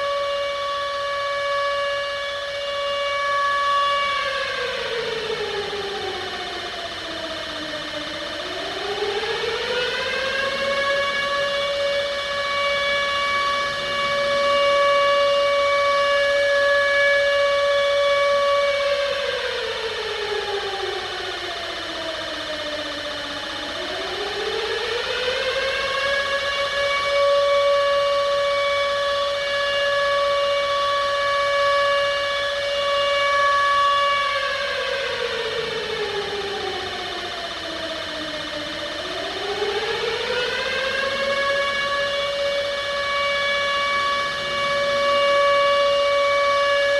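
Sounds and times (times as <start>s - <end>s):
air-raid siren wailing: 0.0s - 46.9s.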